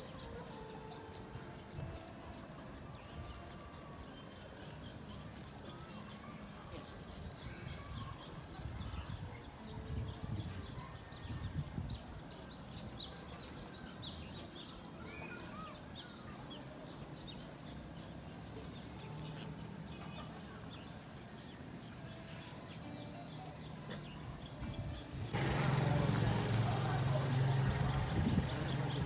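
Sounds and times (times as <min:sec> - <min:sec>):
low background murmur: 0:00.0 - 0:29.0.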